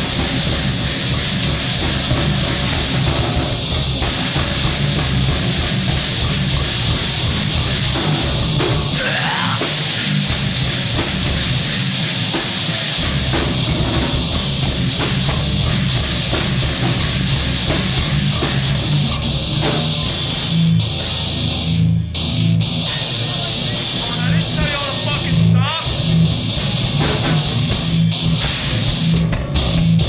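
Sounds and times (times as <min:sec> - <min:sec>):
drum kit: 0:00.0 - 0:30.0
electric guitar: 0:00.0 - 0:30.0.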